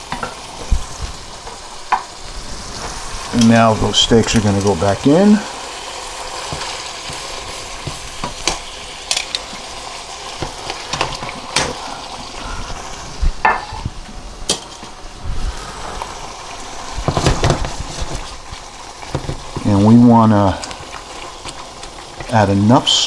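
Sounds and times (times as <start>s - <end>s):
sauce sizzling in a pan: 0.0s - 23.0s.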